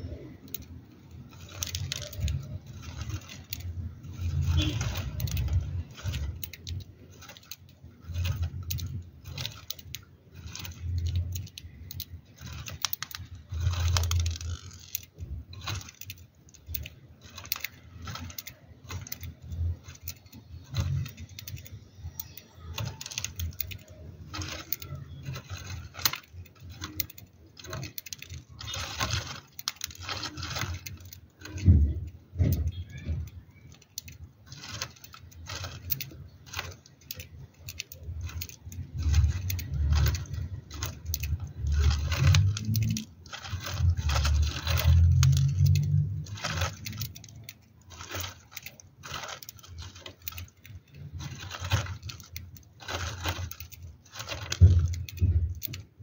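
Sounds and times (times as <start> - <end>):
bird clicking and scratching: 0.0 - 56.0.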